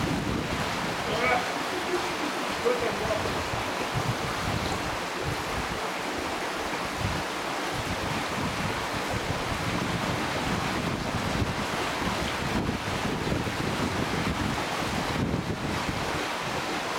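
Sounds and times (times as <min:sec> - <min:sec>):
river flowing over rocks: 0:00.0 - 0:16.9
wind on microphone: 0:00.0 - 0:16.9.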